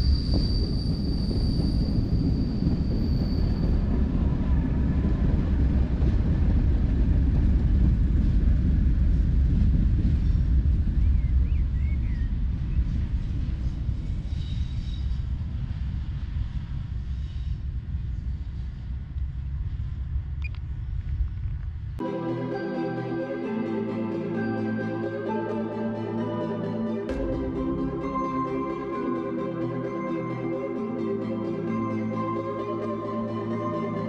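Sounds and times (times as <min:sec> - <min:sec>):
diesel train rumbling: 0:00.0 - 0:34.0.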